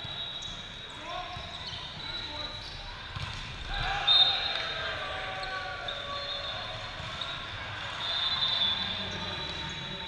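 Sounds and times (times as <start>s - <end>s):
court noise in echoing hall: 0.0s - 10.0s
murmur of distant voices: 0.9s - 10.0s.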